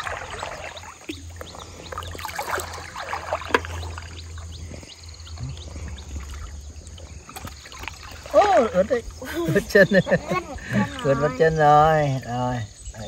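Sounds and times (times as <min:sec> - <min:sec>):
shallow river babbling: 0:00.0 - 0:13.0.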